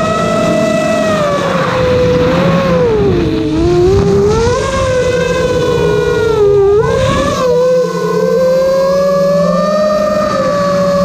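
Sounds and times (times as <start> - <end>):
model plane motor whining: 0.0 - 11.0.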